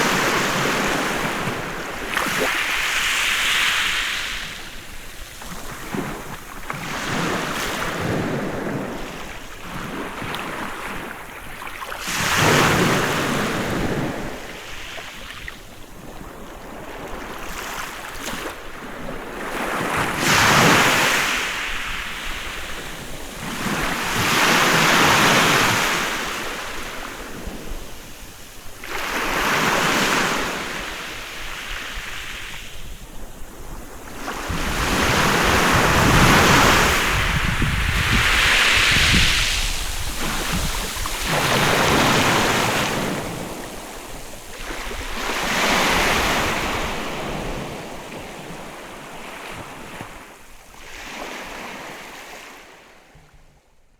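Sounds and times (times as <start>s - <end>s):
sea waves breaking on beach: 0.0s - 52.8s.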